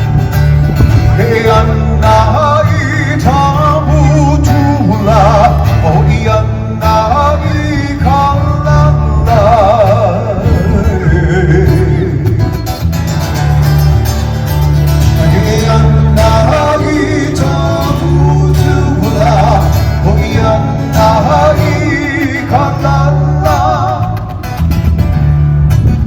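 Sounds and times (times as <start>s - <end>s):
bass line: 0.0s - 26.0s
guitar: 0.0s - 26.0s
person singing with vibrato: 0.9s - 12.7s, 15.0s - 24.5s.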